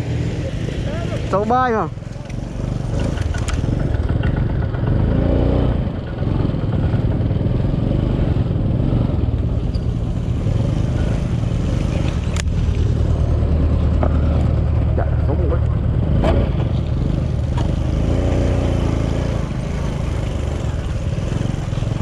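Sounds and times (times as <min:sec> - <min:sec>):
bike rattling and scraping: 0:00.0 - 0:22.0
scooter engine running: 0:00.0 - 0:22.0.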